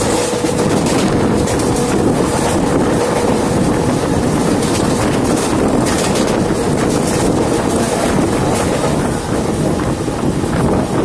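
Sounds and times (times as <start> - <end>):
train running on rails: 0.0 - 11.0
wind buffeting microphone: 0.0 - 11.0.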